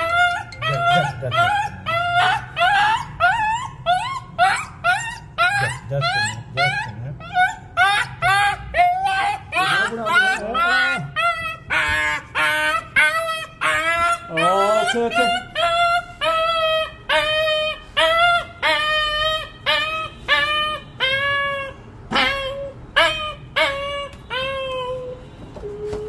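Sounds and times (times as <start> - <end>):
puppy yelping in pain: 0.0 - 25.2.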